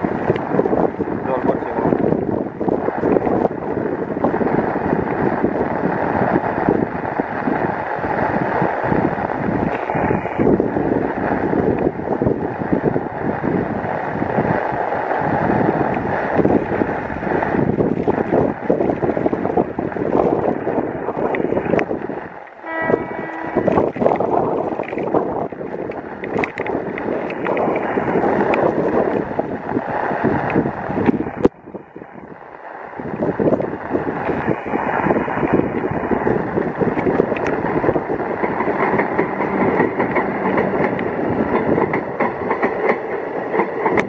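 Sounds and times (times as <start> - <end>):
heavy rain falling: 0.0 - 44.0
wind gusting on microphone: 0.0 - 44.0.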